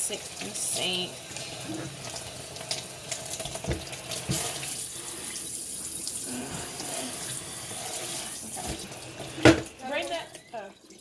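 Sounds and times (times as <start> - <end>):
tap running water into sink: 0.0 - 11.0.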